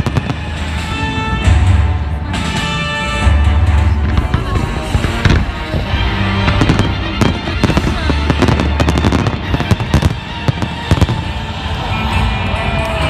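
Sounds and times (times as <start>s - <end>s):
fireworks bursting and crackling: 0.0s - 12.0s
music playing: 0.0s - 13.0s.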